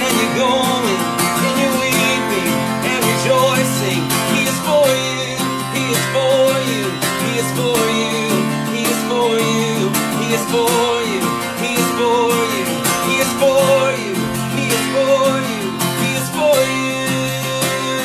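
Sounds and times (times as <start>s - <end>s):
acoustic guitar strumming: 0.0s - 18.0s
man singing: 0.0s - 18.0s.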